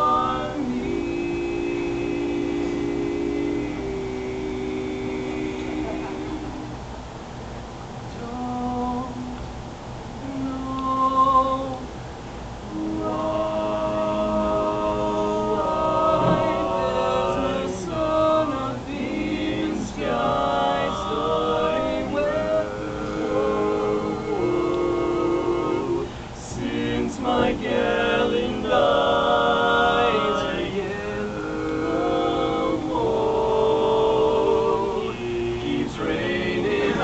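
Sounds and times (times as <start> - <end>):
voices singing in harmony: 0.0 - 7.1, 8.1 - 37.0.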